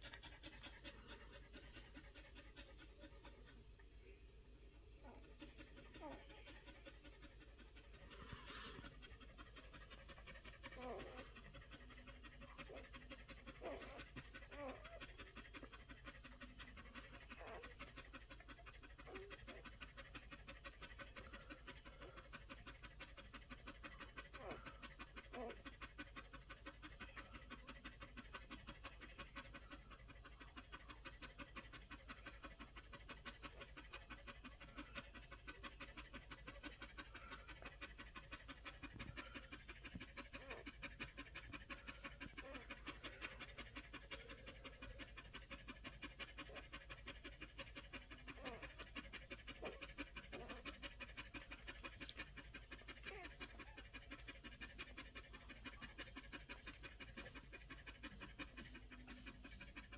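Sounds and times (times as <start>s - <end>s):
dog panting: 0.0s - 59.9s.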